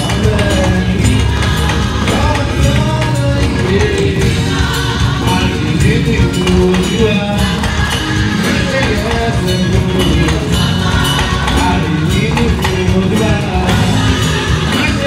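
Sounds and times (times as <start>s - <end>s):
gospel choir singing: 0.0s - 15.0s
live band playing: 0.0s - 15.0s
shakers and tambourine: 0.0s - 15.0s.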